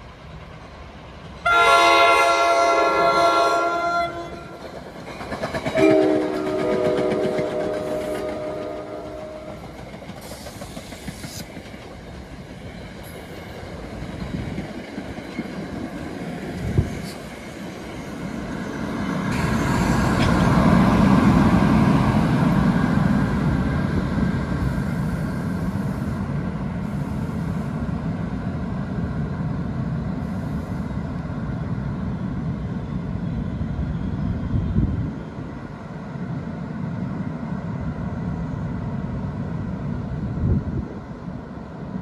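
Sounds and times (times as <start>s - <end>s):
electric locomotive rumbling: 0.0s - 42.0s.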